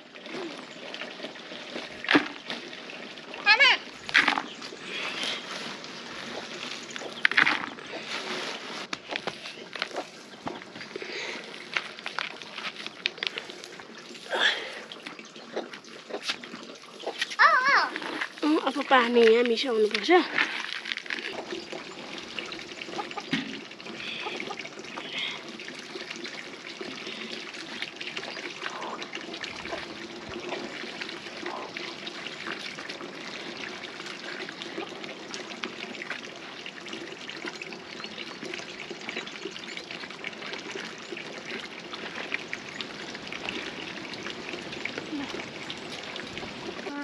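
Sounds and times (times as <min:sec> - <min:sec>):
wet mud sloshing and splashing: 0:00.0 - 0:47.0.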